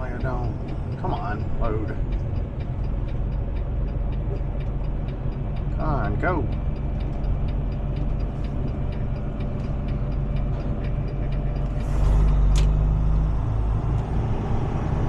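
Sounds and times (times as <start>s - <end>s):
light steady ticking: 0.0s - 14.3s
truck engine running: 0.0s - 15.0s.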